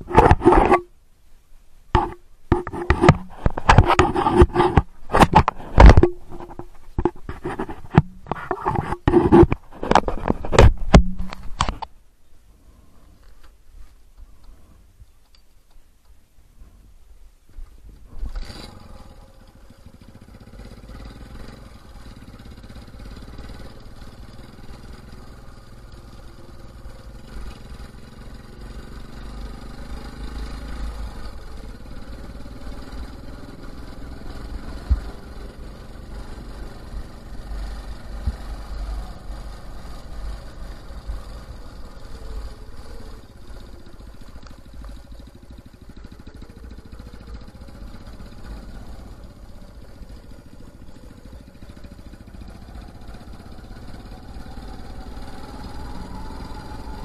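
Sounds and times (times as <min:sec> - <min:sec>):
motorcycle engine running: 0:02.0 - 0:11.9, 0:17.8 - 0:57.0.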